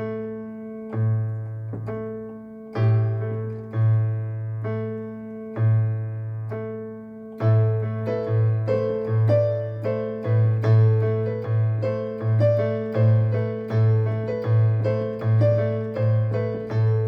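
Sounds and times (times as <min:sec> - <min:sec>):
slow piano: 0:00.0 - 0:17.0.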